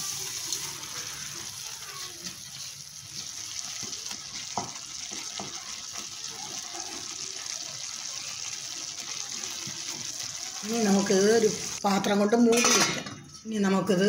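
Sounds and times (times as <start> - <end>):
water boiling with hiss: 0.0 - 12.0.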